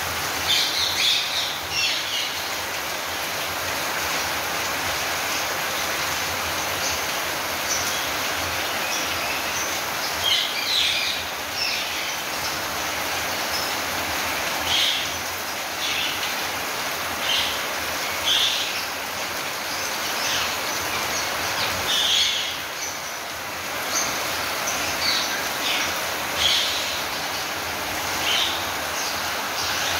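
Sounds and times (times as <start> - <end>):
steady rain: 0.0 - 29.9.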